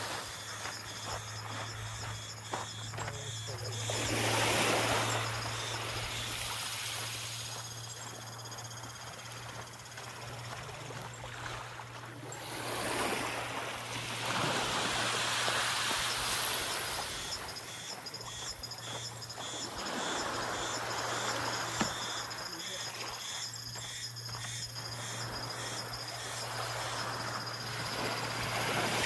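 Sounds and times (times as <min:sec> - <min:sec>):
steady low hum: 0:00.0 - 0:12.3, 0:16.1 - 0:29.0
high insect trills: 0:00.0 - 0:29.0
small waves washing on beach: 0:00.0 - 0:29.0.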